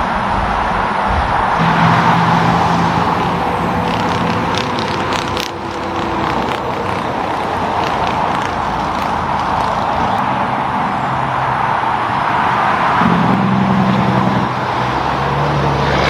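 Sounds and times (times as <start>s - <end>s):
low engine hum: 0.0s - 16.0s
tyre and road noise: 0.0s - 16.0s.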